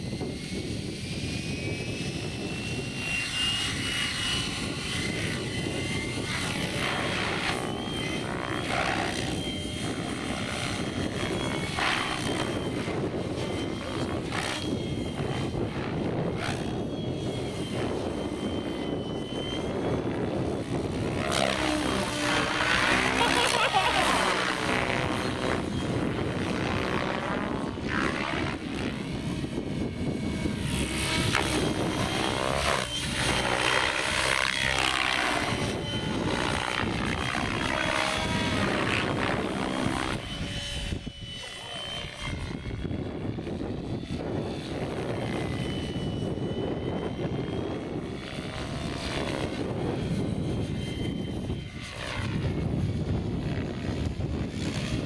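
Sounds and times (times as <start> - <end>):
model helicopter rotor whine: 0.0 - 55.0.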